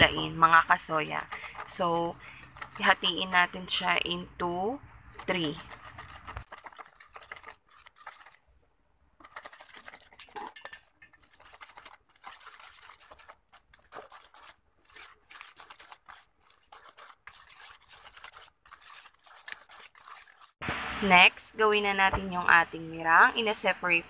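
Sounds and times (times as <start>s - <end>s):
whisk scraping metal bowl: 0.0s - 8.6s, 9.2s - 20.6s.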